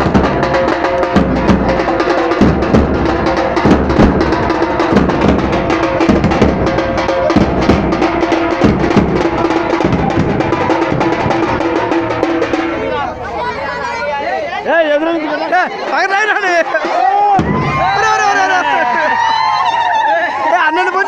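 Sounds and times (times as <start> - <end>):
loud fast drumming: 0.0 - 14.0, 15.8 - 20.6.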